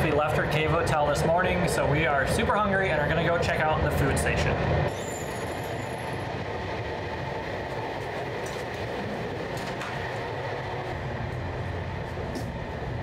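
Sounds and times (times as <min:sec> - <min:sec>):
train carriage running noise: 0:00.0 - 0:13.0.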